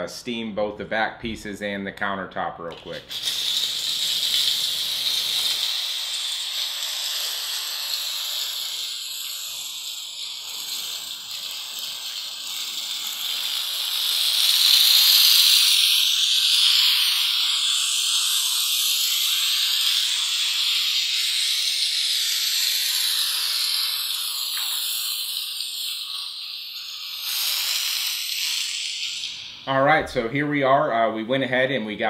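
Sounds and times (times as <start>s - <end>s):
steam cleaner hissing: 2.9s - 29.9s.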